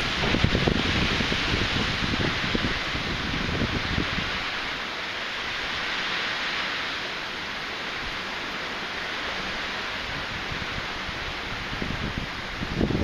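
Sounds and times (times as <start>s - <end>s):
gusts buffeting microphone: 0.0s - 13.0s
wind and rain hiss: 0.0s - 13.0s.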